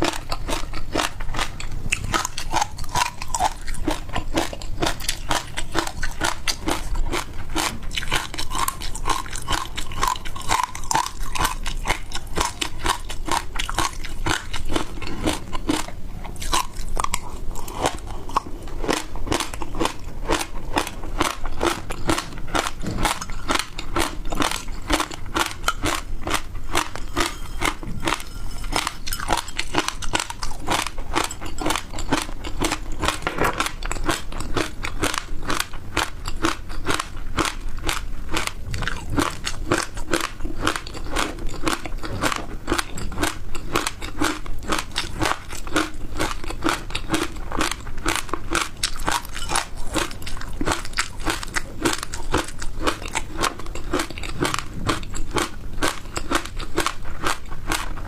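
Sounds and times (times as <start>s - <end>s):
crunchy chewing of frozen food: 0.0s - 58.0s.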